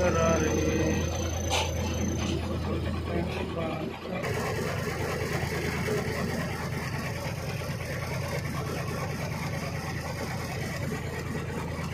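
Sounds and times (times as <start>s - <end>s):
truck diesel engine running: 0.0s - 11.9s.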